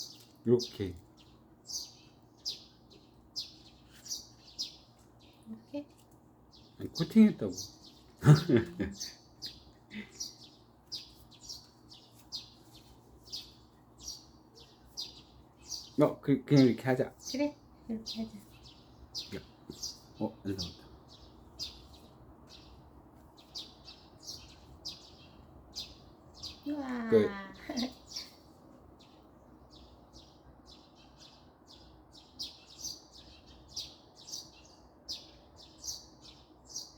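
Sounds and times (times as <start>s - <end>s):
songbird chirping: 0.0s - 36.9s.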